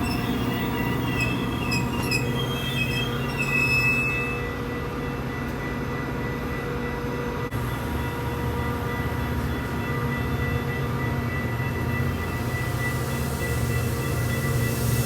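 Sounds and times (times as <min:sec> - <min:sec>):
train wheel squeal: 0:00.0 - 0:06.8, 0:09.0 - 0:15.0
train rumbling by: 0:00.0 - 0:15.0.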